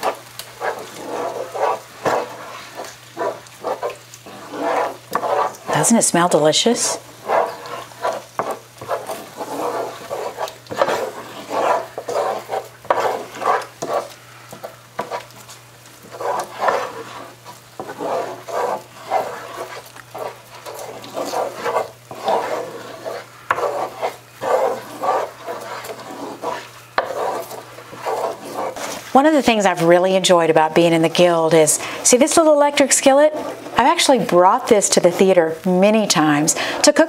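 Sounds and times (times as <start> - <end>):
wooden spoon scraping a skillet: 0.0 - 37.0.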